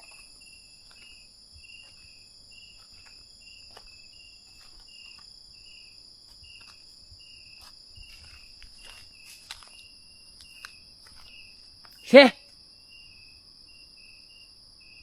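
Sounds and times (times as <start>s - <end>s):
cricket-like chirping: 0.0s - 15.0s
insects trilling: 0.0s - 15.0s.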